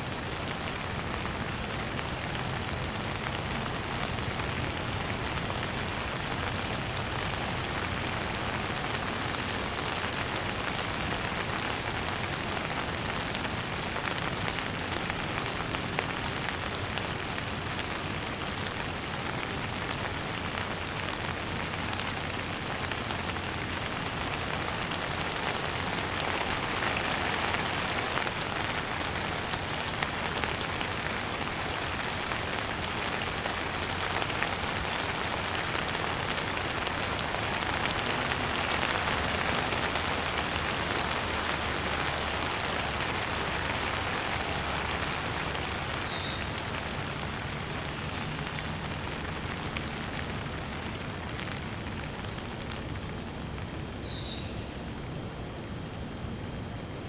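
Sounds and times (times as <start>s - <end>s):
raindrops ticking: 0.0s - 54.1s
steady rain hiss: 0.0s - 57.0s.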